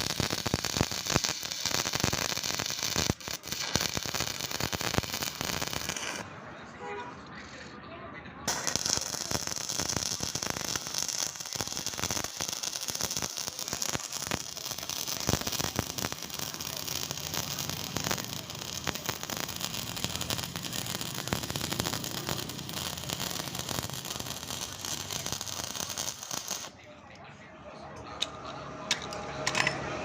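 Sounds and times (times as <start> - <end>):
arc welding crackling hiss: 0.0 - 6.2, 8.5 - 26.8.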